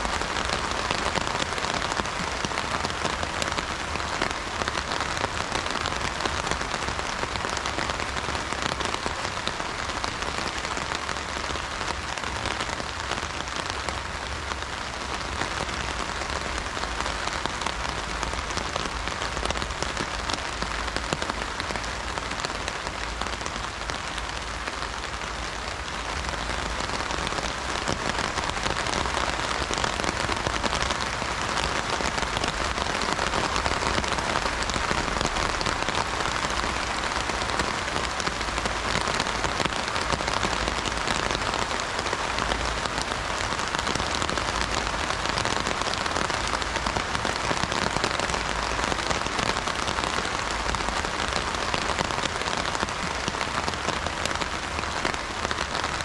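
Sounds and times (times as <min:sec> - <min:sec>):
heavy rain on an umbrella: 0:00.0 - 0:56.0.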